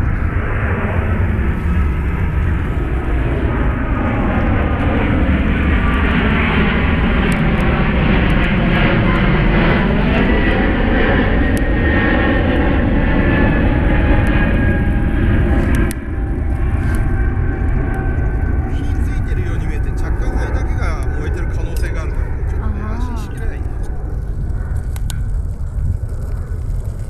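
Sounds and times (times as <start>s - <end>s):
aircraft engine drone overhead: 0.0s - 27.0s.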